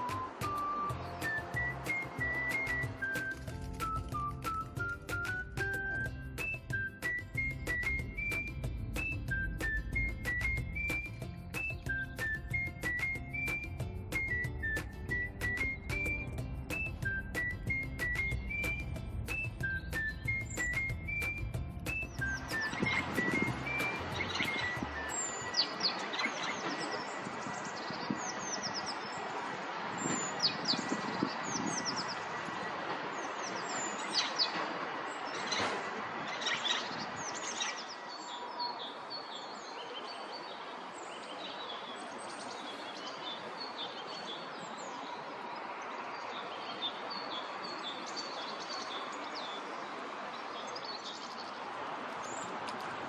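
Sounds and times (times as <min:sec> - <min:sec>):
small birds chirping: 0:00.0 - 0:52.8.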